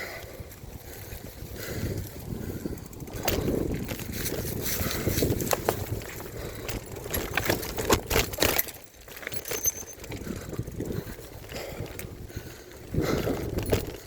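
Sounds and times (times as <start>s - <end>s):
bike rattling on dirt trail: 0.0s - 14.0s.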